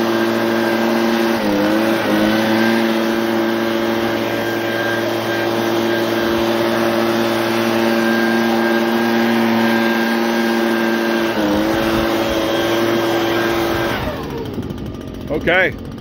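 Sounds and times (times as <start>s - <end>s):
leaf blower running: 0.0s - 16.0s.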